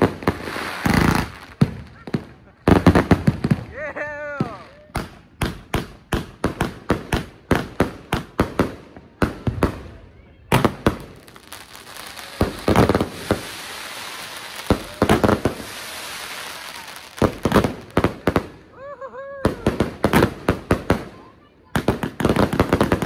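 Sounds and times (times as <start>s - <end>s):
firework bangs: 0.0s - 3.7s, 4.4s - 18.7s, 19.4s - 23.0s
fireworks crackling: 0.0s - 23.0s.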